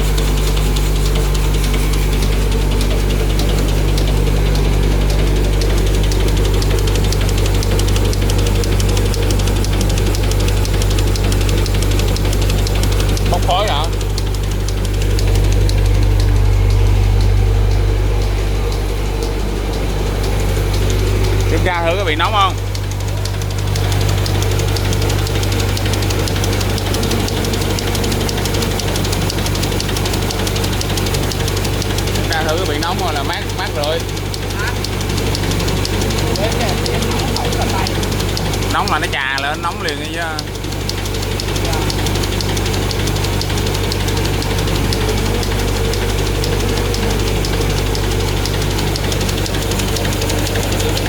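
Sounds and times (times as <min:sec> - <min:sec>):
machine motor hum: 0:00.0 - 0:51.0
rapid even ticking: 0:00.0 - 0:51.0
rapid mechanical clatter: 0:00.0 - 0:51.0.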